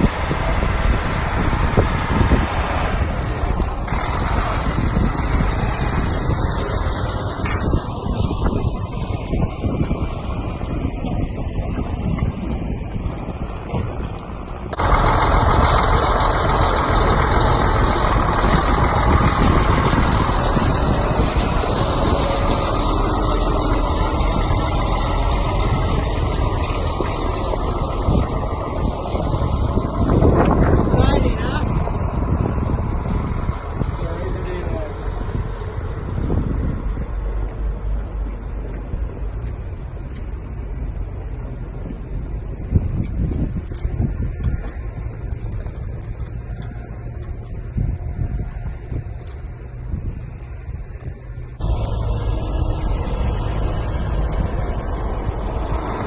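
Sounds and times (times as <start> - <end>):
truck diesel engine driving by: 0.0 - 56.0.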